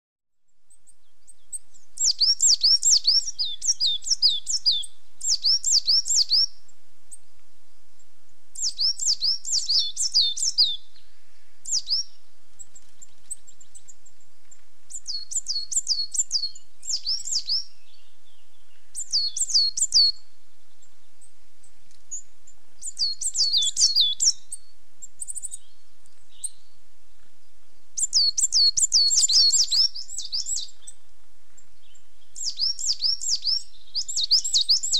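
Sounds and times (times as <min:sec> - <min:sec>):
bird singing high quick phrases: 0:00.7 - 0:06.7, 0:08.6 - 0:11.0, 0:11.6 - 0:14.2, 0:14.9 - 0:26.8, 0:28.0 - 0:31.0, 0:31.7 - 0:34.9.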